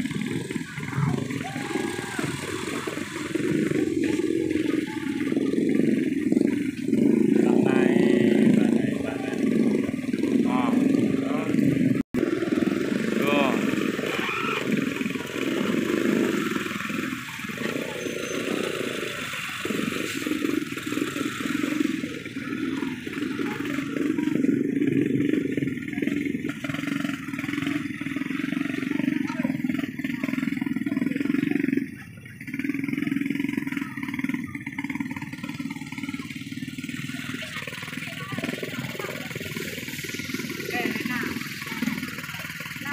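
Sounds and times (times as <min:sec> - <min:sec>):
motorcycle engines running: 0:00.0 - 0:42.9.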